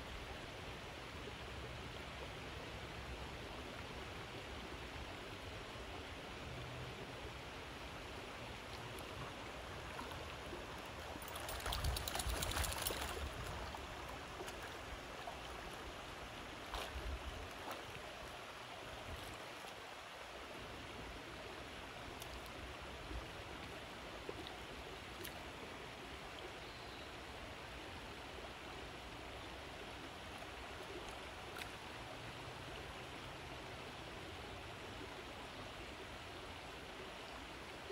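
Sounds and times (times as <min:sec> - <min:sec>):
creek water flowing over stones: 0:00.0 - 0:37.9.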